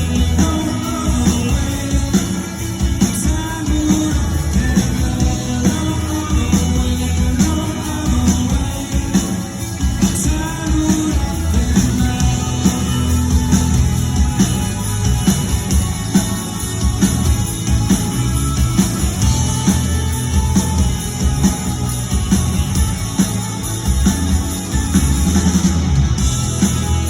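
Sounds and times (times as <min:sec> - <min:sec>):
bass: 0:00.0 - 0:27.0
drum beat: 0:00.0 - 0:27.0
electric guitars: 0:00.0 - 0:27.0.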